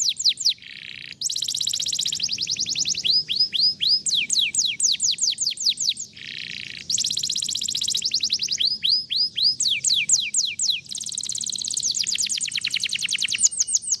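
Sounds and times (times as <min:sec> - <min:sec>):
canary singing: 0:00.0 - 0:14.0.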